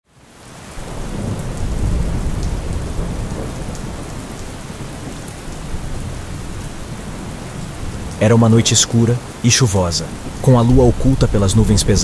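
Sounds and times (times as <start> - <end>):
steady rain: 0.0 - 12.0
thunder rumble: 0.8 - 9.4, 10.0 - 12.0.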